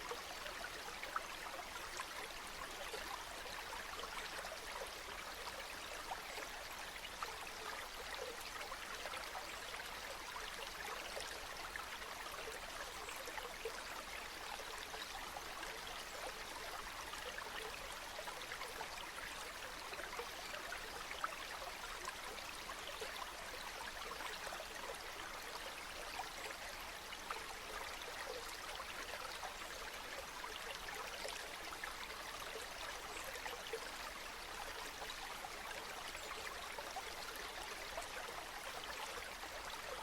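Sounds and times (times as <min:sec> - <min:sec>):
stream babbling over stones: 0:00.0 - 0:40.0.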